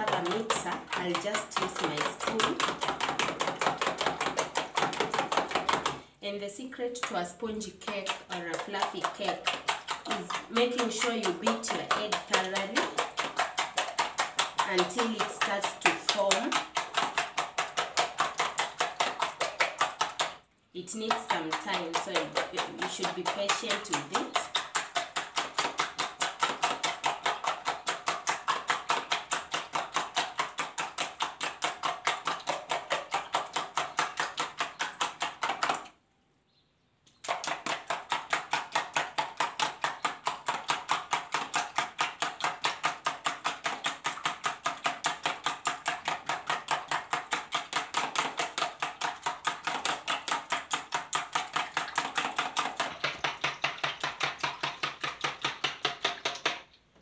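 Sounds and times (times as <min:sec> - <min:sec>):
spoon beating eggs in plastic bowl: 0:00.0 - 0:36.0, 0:37.1 - 0:57.0.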